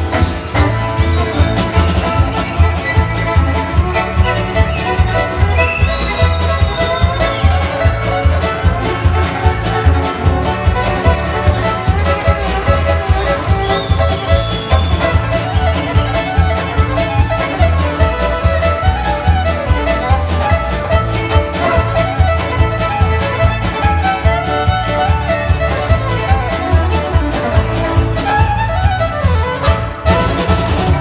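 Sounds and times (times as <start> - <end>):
bowed fiddle lead: 0.0 - 31.0
electric and acoustic guitars: 0.0 - 31.0
steady drum beat: 0.0 - 31.0.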